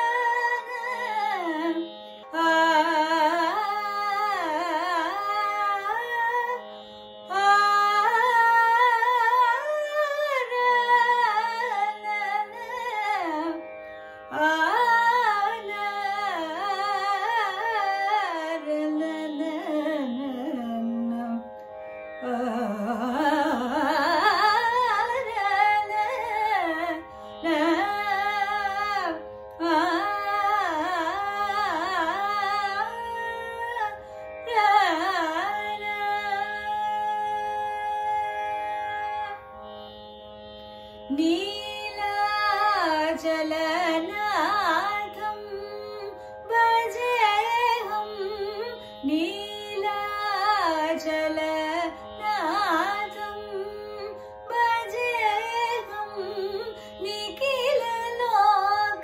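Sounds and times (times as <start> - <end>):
woman singing: 0.0 - 13.7, 14.3 - 21.5, 22.2 - 39.4, 41.1 - 59.0.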